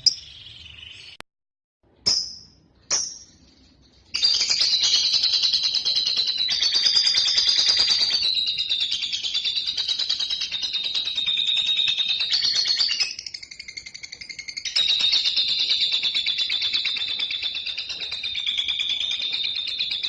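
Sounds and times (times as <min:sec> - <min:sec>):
bird chirp: 0:00.0 - 0:01.2, 0:01.9 - 0:20.0.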